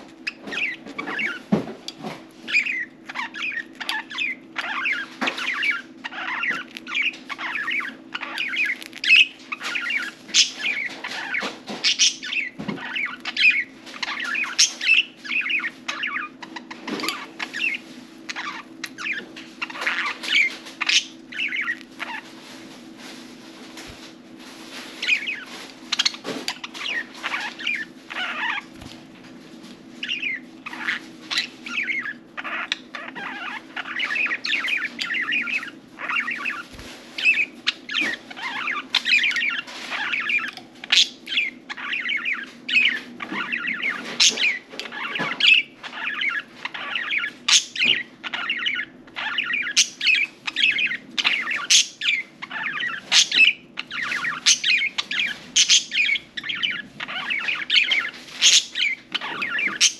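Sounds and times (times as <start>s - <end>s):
budgerigars chirping and warbling: 0.0s - 22.7s, 24.9s - 29.0s, 29.9s - 59.9s.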